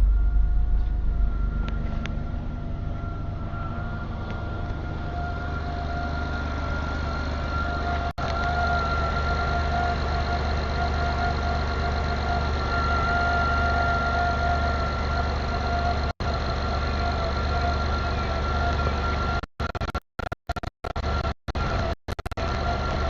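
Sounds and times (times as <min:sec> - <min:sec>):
car engine idling: 0:00.0 - 0:19.7, 0:20.9 - 0:23.0
high whine: 0:00.0 - 0:23.0.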